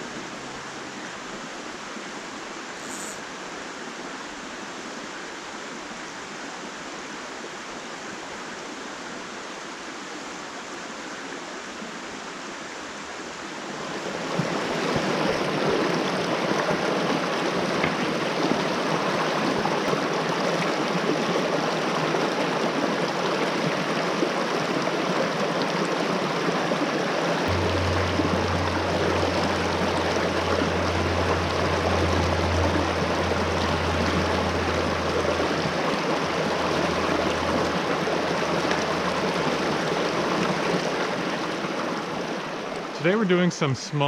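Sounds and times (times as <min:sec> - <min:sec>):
creek running over rocks: 0:03.4 - 0:44.0.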